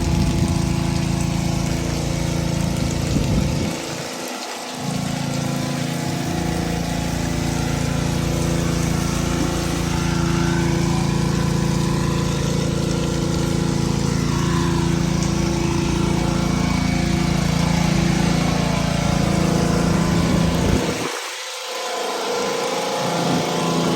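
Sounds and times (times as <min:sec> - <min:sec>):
motor humming steadily: 0:00.0 - 0:23.9.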